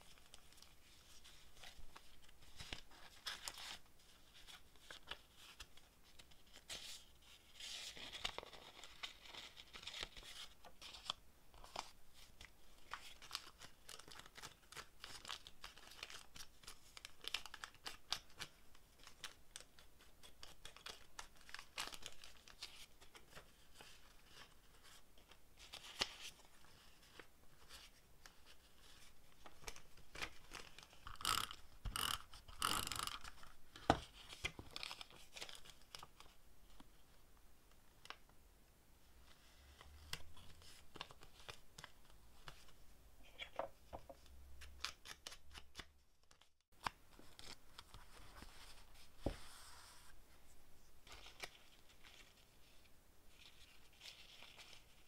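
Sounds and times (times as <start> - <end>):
paper rustling and crinkling: 0.0 - 31.4, 33.2 - 36.8, 44.8 - 55.0.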